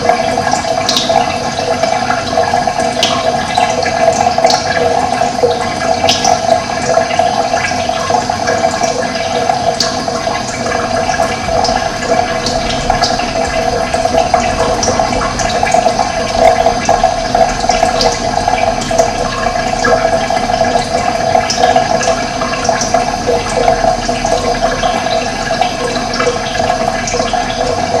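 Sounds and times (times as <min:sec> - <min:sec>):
running water gurgling: 0:00.0 - 0:28.0.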